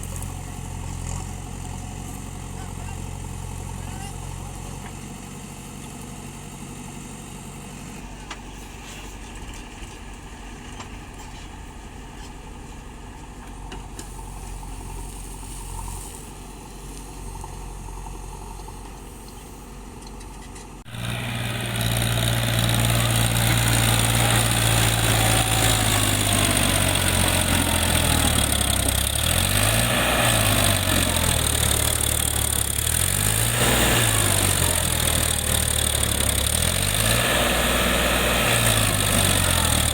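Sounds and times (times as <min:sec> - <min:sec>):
heavy diesel engine running: 0:00.0 - 0:20.1, 0:20.7 - 0:39.9.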